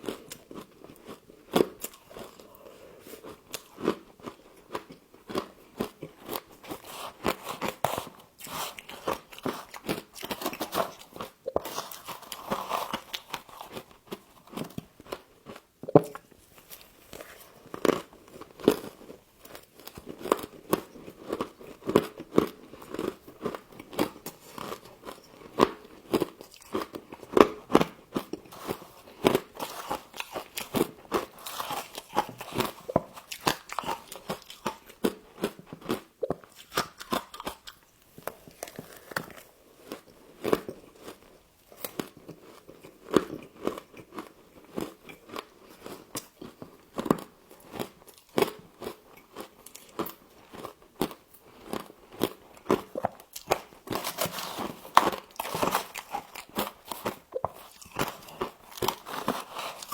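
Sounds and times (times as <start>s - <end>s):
frost being chewed crunches: 0.0s - 59.9s.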